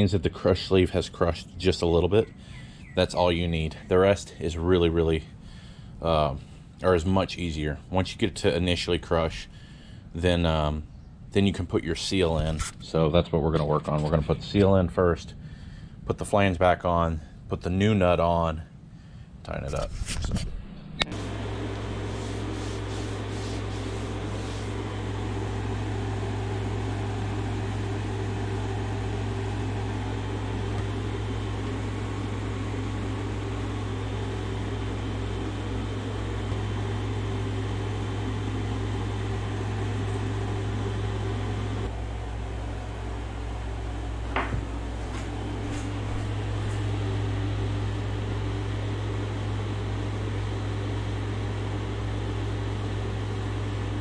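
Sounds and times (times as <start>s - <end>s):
mechanical hum with low drone: 0.0s - 54.0s.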